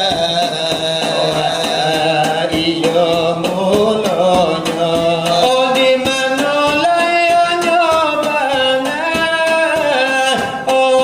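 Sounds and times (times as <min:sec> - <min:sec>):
person singing devotional song: 0:00.0 - 0:11.0.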